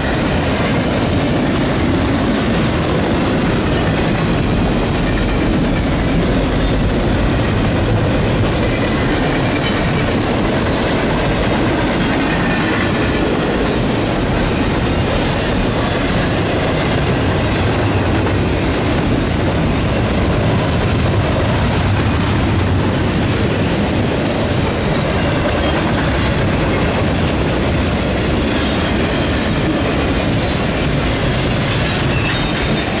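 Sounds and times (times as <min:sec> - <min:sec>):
train wheels on rails: 0:00.0 - 0:33.0.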